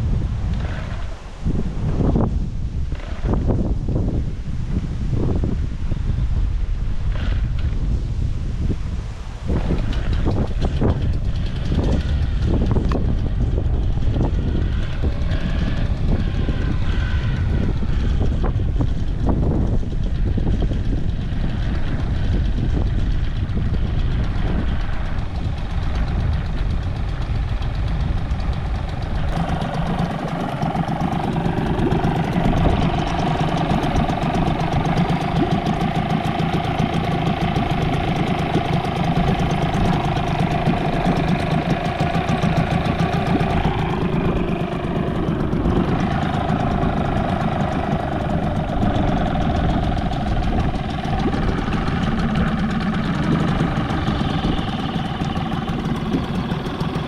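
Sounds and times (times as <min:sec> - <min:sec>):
outboard motor idling: 0:00.0 - 0:07.9, 0:08.6 - 0:57.0
wind rumbling on microphone: 0:00.0 - 0:57.0.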